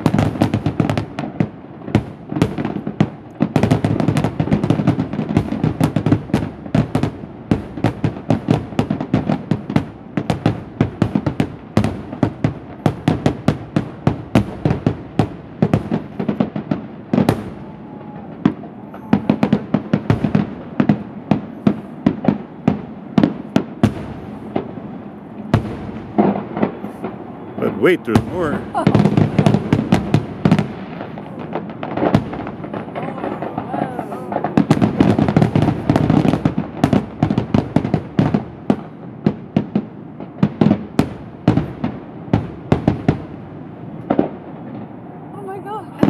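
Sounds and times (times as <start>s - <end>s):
fireworks bangs: 0.0s - 46.0s.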